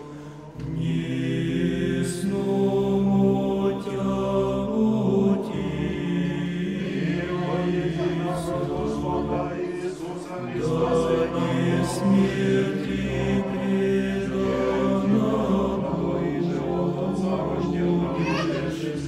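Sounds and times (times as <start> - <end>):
voices singing liturgical chant: 0.0 - 19.0.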